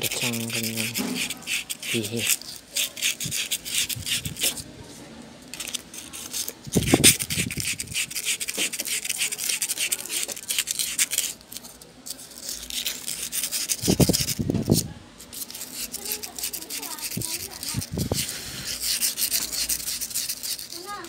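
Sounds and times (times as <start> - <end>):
sandpaper rubbing steel shaft: 0.0 - 4.6, 5.6 - 11.5, 12.1 - 21.0.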